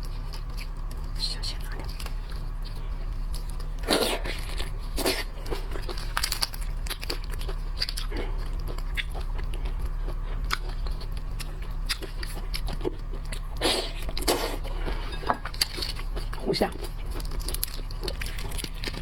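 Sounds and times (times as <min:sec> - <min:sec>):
low hum: 0:00.0 - 0:19.0
person chewing seafood: 0:00.0 - 0:19.0.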